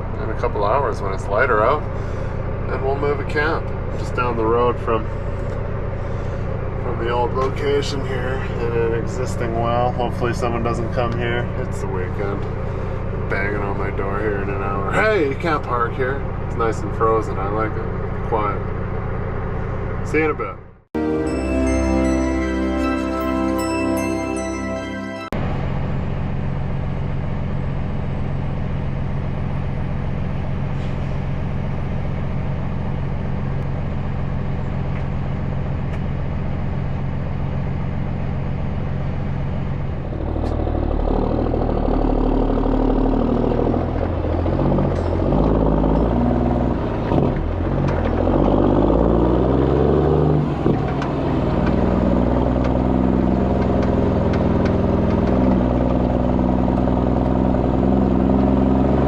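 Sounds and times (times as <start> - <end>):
diesel truck engine idling and revving: 0.0 - 24.2, 25.4 - 59.0.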